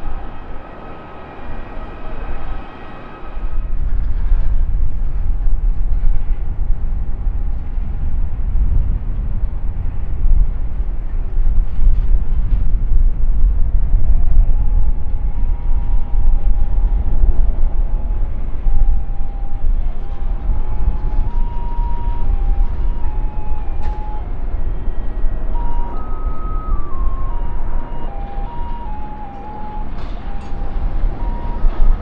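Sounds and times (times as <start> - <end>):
jet engines rumbling and whining: 0.0 - 32.0.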